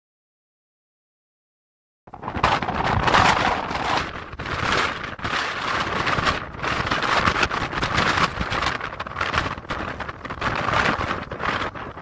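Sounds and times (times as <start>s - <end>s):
gusty wind buffeting microphone: 2.1s - 12.0s.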